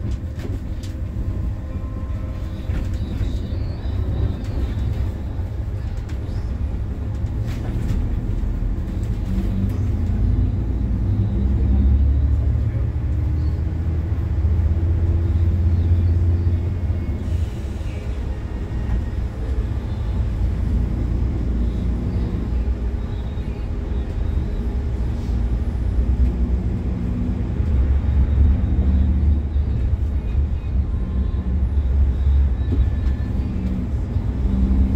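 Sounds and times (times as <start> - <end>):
bus engine drone: 0.0 - 34.9.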